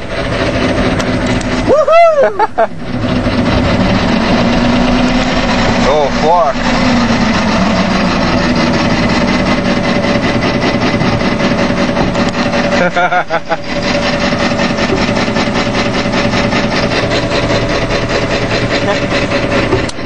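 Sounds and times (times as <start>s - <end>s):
fast even rasping: 0.0s - 20.0s
truck engine running: 0.0s - 20.0s.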